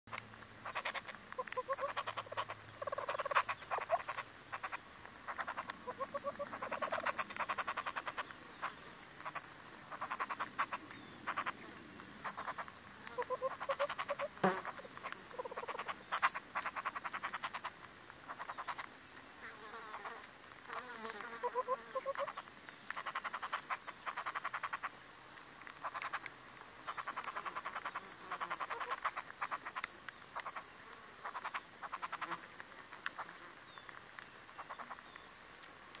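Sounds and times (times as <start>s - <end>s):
birds clucking and clicking: 0.1s - 36.0s.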